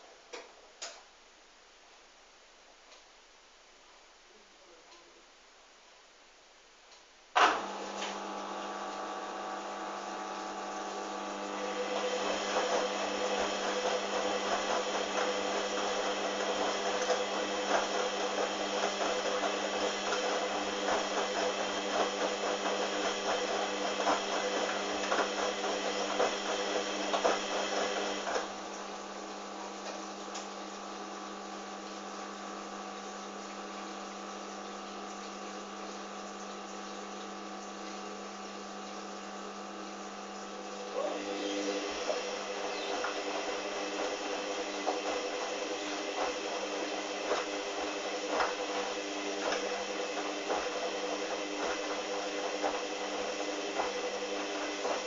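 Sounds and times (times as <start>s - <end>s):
washing machine motor humming: 7.4s - 55.0s.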